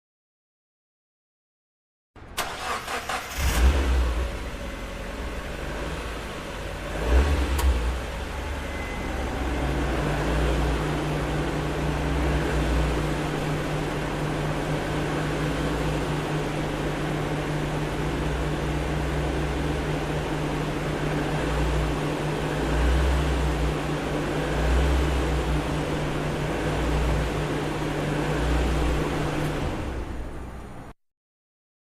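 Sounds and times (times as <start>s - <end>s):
car engine starting and idling: 2.2s - 30.9s.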